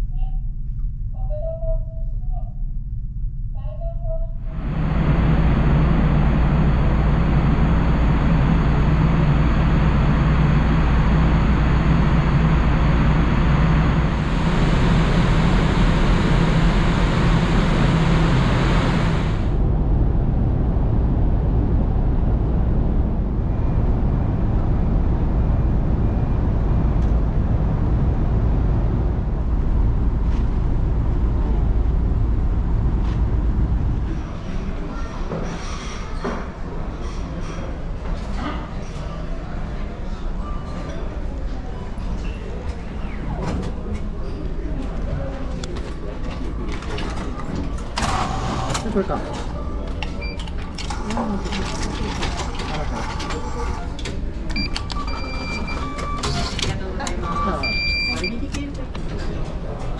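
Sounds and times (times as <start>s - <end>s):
low ship engine rumble: 0.0s - 59.9s.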